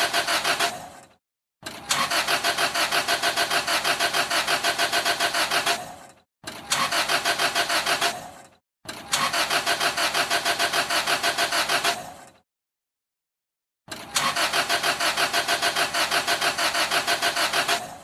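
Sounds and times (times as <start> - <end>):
car engine cranking: 0.0 - 12.3, 13.9 - 18.0.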